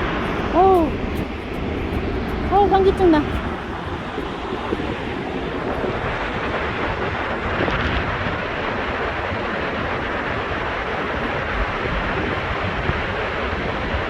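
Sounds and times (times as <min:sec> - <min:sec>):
waterfall roaring: 0:00.0 - 0:14.0
wind buffeting microphone: 0:00.0 - 0:14.0.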